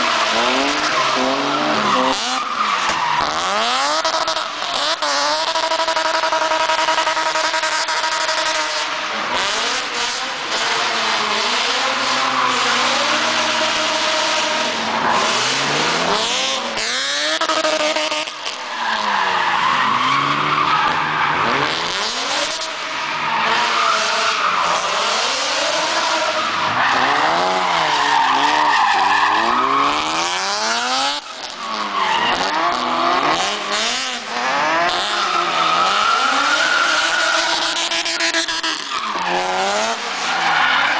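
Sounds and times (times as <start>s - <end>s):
car engine revving hard: 0.0s - 40.9s.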